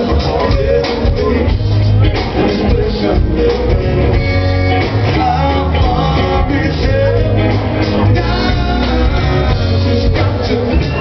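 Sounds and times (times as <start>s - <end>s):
person singing: 0.0s - 11.0s
rock band playing live: 0.0s - 11.0s.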